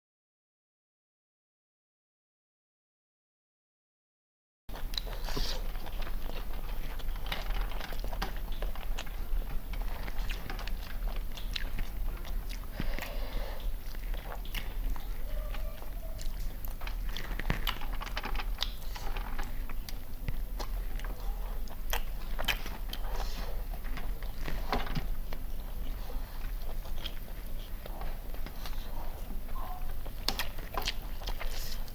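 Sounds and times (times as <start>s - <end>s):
food crunching: 4.7s - 31.9s
steady low hum: 4.7s - 31.9s
wet chewing and biting: 4.7s - 31.9s.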